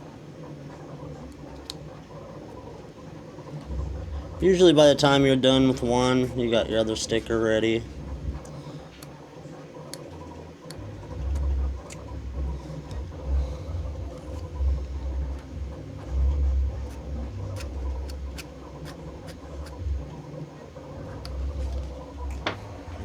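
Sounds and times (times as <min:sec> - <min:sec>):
ticks and scratches of vinyl weeding: 0:00.0 - 0:23.0
vinyl cutter motors running: 0:00.0 - 0:23.0.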